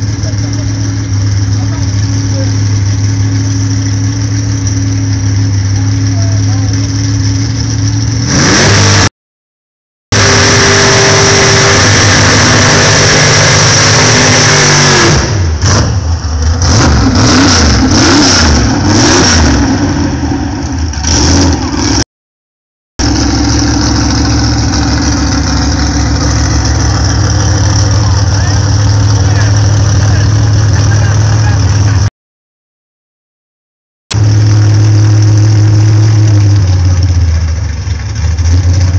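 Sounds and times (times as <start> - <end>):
drag car engines revving: 0.0 - 9.1, 10.1 - 22.0, 23.0 - 32.1, 34.1 - 38.9.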